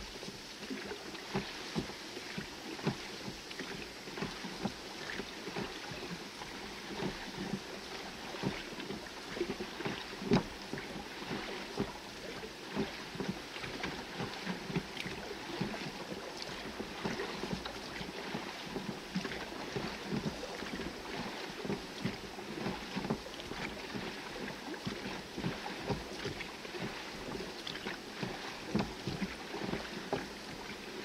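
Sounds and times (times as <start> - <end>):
oars working: 0.0 - 31.0
steady wash of water: 0.0 - 31.0
water slapping against hull: 0.0 - 31.0.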